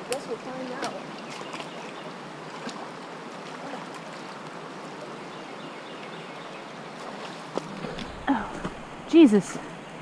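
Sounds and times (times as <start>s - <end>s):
flowing creek water: 0.0s - 10.0s.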